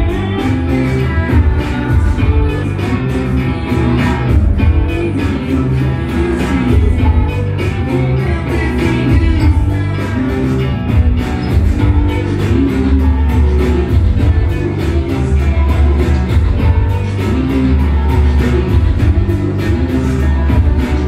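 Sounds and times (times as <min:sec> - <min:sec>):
bass guitar: 0:00.0 - 0:21.0
electric guitar: 0:00.0 - 0:21.0
steady drum beat: 0:00.0 - 0:21.0.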